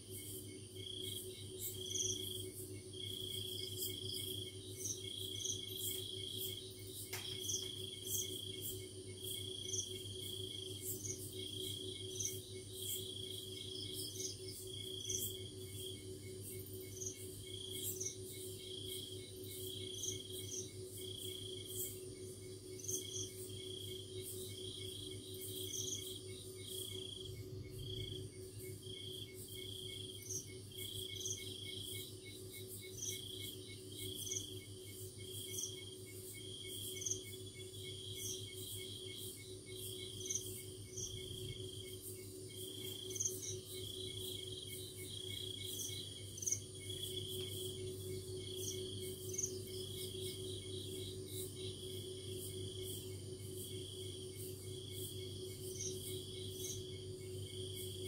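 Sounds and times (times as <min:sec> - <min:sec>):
crickets chirping: 0:00.0 - 0:58.0
steady low hum: 0:00.0 - 0:58.0.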